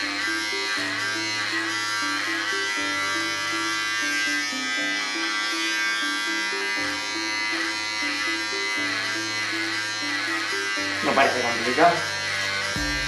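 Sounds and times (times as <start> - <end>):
background music: 0.0 - 13.0
electric pet clipper buzzing: 0.0 - 13.0.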